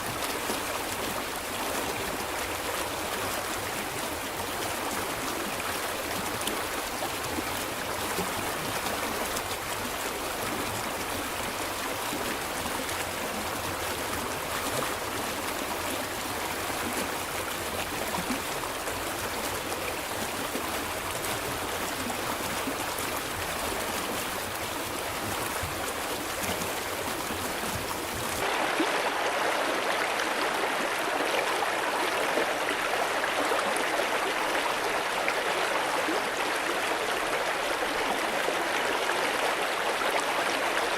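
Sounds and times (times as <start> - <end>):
stream of water babbling: 0.0 - 40.9.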